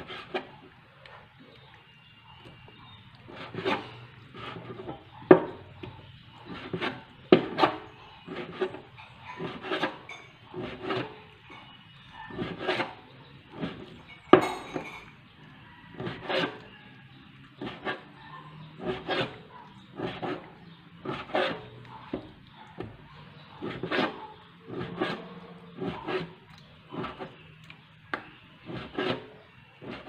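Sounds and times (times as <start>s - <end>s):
knife scraping on cutting board: 0.0s - 0.6s, 2.3s - 17.0s, 17.6s - 30.0s.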